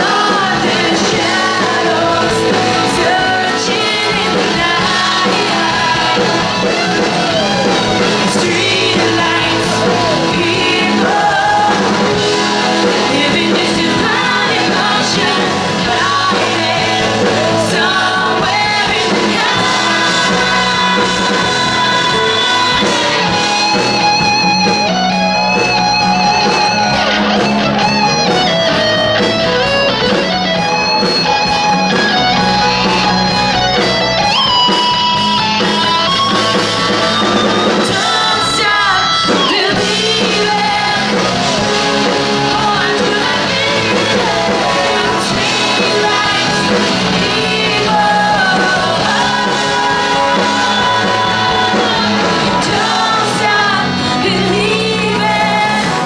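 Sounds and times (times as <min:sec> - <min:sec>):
person singing: 0:00.0 - 0:28.9, 0:37.7 - 0:56.0
live rock band playing: 0:00.0 - 0:56.0.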